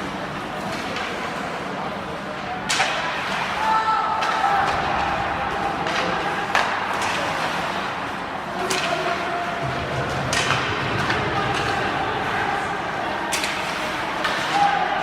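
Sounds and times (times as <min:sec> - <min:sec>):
hockey sticks cracking on puck: 0:00.3 - 0:01.6, 0:02.3 - 0:15.0.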